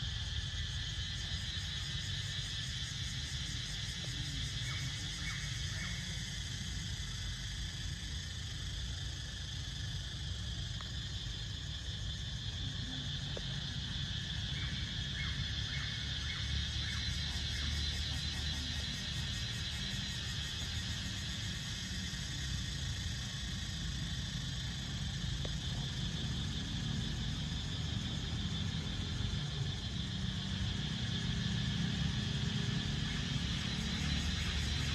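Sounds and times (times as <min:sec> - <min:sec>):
insect chorus drone: 0:00.0 - 0:34.9.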